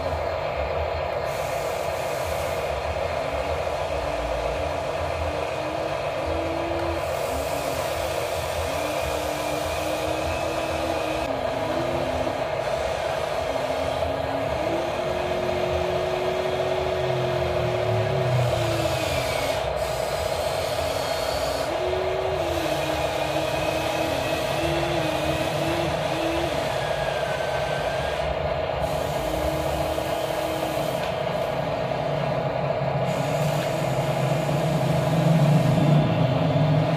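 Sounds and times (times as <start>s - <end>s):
toy excavator motors humming: 0.0s - 0.5s, 1.2s - 36.9s
motor whine: 0.0s - 36.9s.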